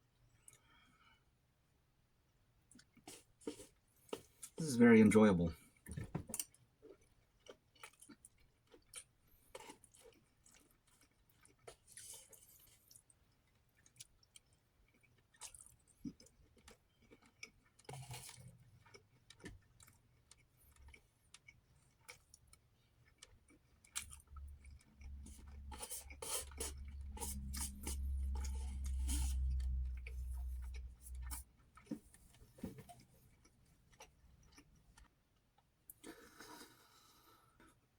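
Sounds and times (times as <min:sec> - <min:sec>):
chewing food: 0:02.6 - 0:04.7, 0:05.6 - 0:37.8.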